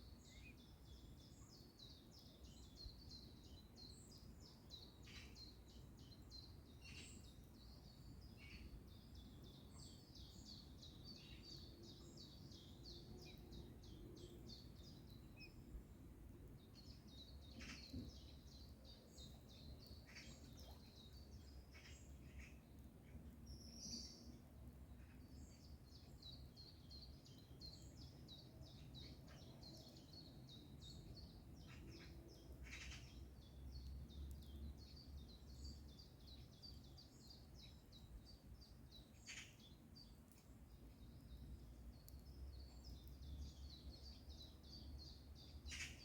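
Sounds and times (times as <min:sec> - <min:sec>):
faint birdsong: 0:00.0 - 0:46.0.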